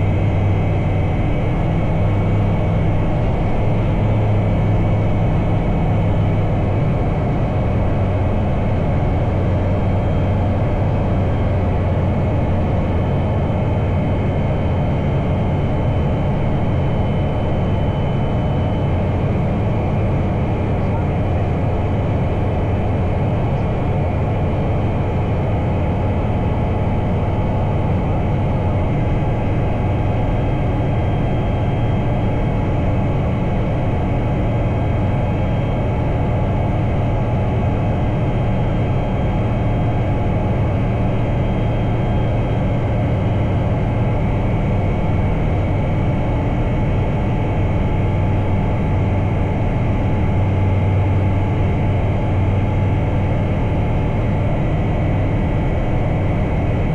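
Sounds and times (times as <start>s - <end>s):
light aircraft engine droning: 0.0s - 56.9s.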